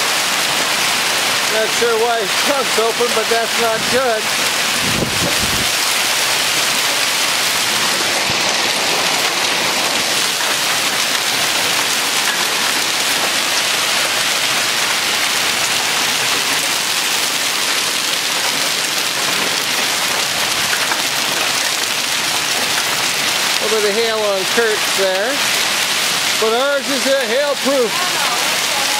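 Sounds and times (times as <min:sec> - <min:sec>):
heavy hail and rain pelting: 0:00.0 - 0:28.9.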